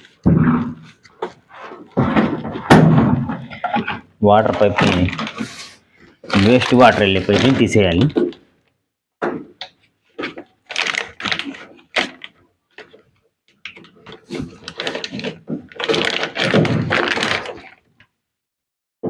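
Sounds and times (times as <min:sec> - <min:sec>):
plastic parts clattering: 0:00.9 - 0:08.4, 0:09.6 - 0:18.1.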